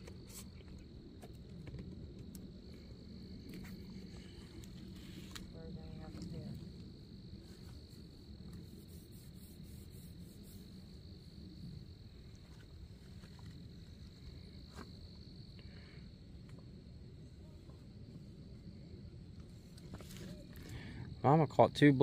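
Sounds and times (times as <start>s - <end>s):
high-pitched insect trill: 2.3s - 22.0s.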